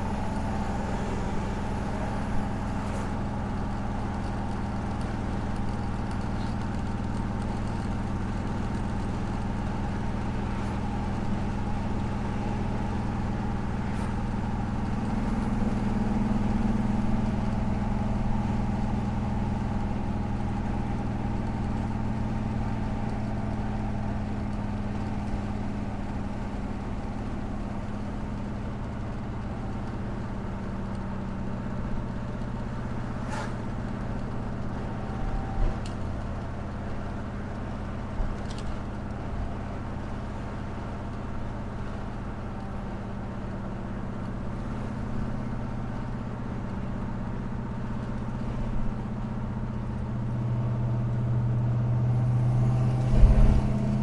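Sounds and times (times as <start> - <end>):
car engine drone from inside cabin: 0.0 - 54.0.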